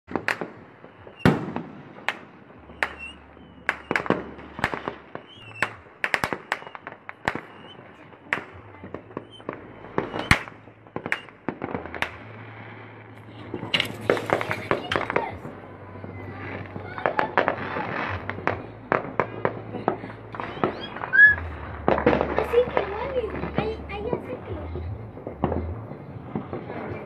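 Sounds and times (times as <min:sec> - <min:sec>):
firecrackers banging and popping: 0:00.0 - 0:27.0.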